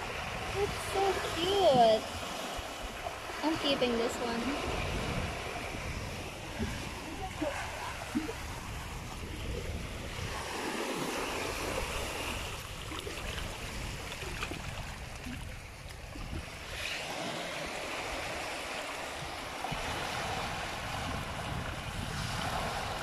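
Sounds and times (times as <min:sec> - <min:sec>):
small waves washing on beach: 0:00.0 - 0:23.0.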